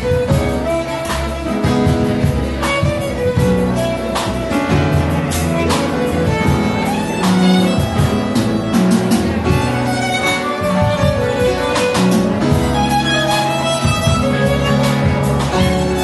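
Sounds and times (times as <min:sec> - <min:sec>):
double bass: 0:00.0 - 0:16.0
drum and cymbal strikes: 0:00.0 - 0:16.0
violin melody: 0:00.0 - 0:16.0.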